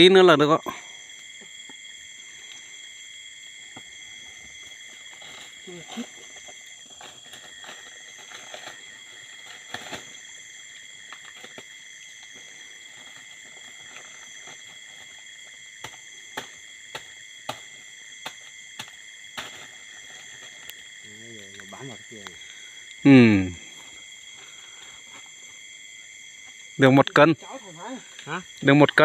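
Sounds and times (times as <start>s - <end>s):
night insects trilling: 0.0s - 29.0s.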